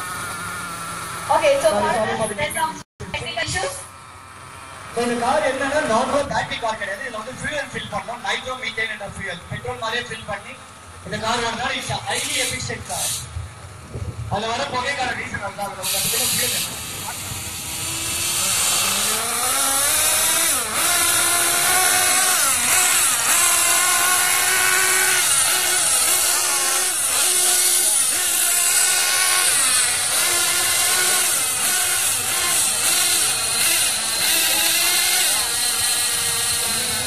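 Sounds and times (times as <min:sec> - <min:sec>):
rc car engines buzzing: 0:00.0 - 0:13.4, 0:14.3 - 0:37.0.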